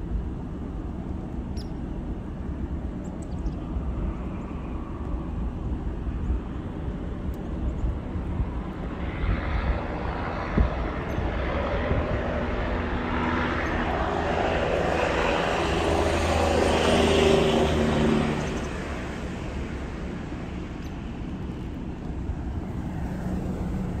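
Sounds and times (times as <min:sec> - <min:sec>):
passing engine noise: 0:00.0 - 0:24.0.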